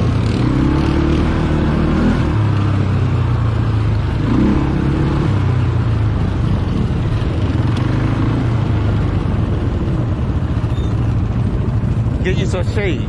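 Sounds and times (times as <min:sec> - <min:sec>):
atv engine running: 0:00.0 - 0:13.0
steady rush of noise: 0:00.0 - 0:13.0.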